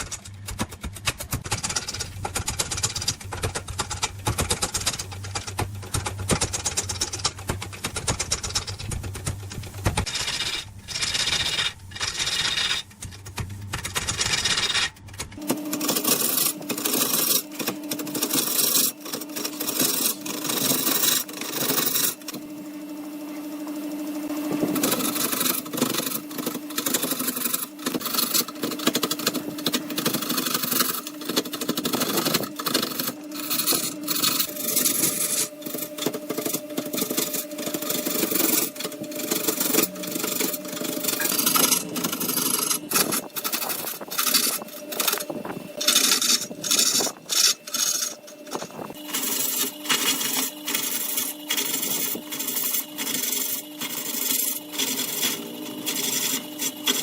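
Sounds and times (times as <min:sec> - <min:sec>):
tool scraping spinning wood: 0:00.0 - 0:57.0
lathe motor hum: 0:01.5 - 0:57.0.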